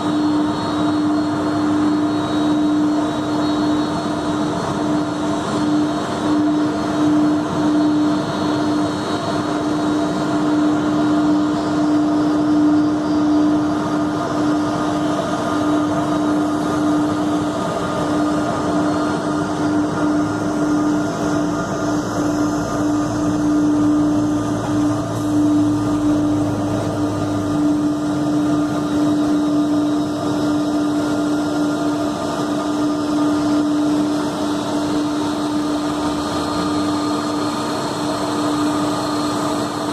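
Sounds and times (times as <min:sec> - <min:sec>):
constant droning tone: 0:00.0 - 0:39.9
jet engines running: 0:00.0 - 0:39.9.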